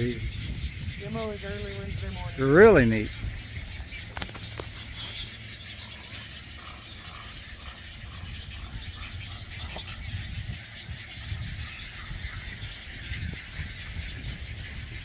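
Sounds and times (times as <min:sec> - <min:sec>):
egrets calling: 0:00.0 - 0:15.0
wind rumbling on microphone: 0:00.0 - 0:15.0.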